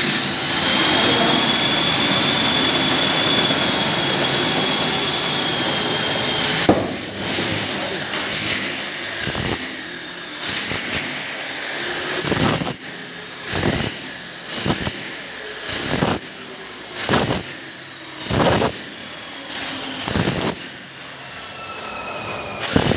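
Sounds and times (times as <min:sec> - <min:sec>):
power tool on masonry: 0:00.0 - 0:22.9.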